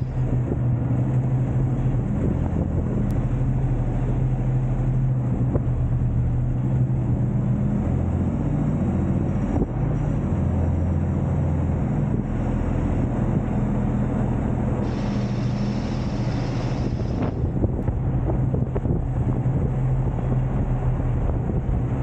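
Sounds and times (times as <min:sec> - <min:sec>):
diesel truck engine droning: 0:00.0 - 0:22.0.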